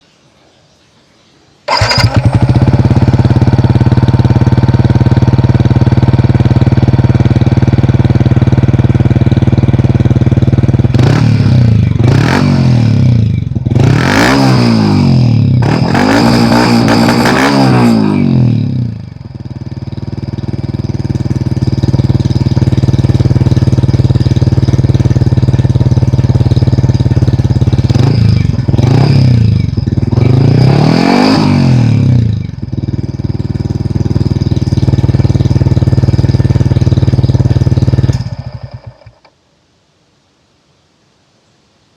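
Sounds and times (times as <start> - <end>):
motorcycle engine idling and revving: 1.7 - 39.3.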